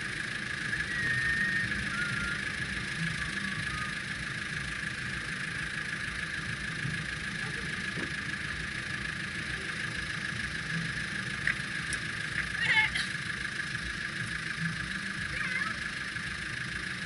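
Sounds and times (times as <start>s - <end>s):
car engine idling: 0.0s - 17.0s
constant high hiss: 0.0s - 17.0s.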